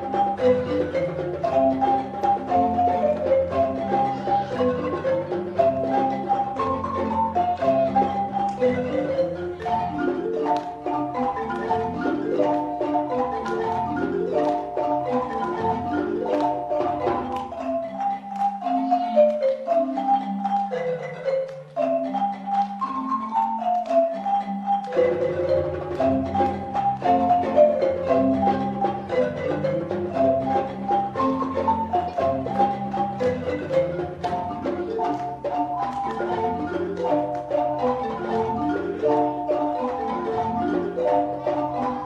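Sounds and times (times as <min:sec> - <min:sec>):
low bass marimba notes: 0:00.0 - 0:42.0
marimba ensemble playing: 0:00.0 - 0:42.0.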